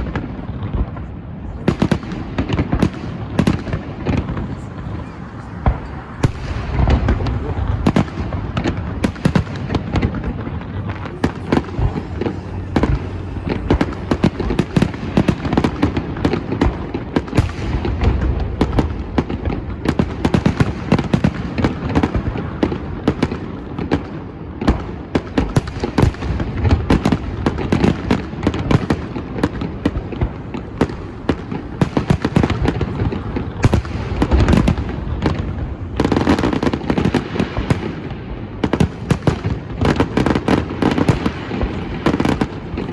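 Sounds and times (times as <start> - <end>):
fireworks booming and crackling: 0.0 - 42.9.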